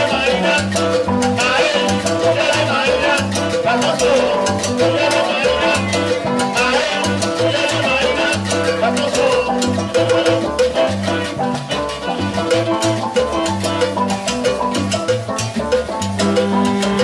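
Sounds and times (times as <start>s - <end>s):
live salsa band playing: 0.0s - 17.0s.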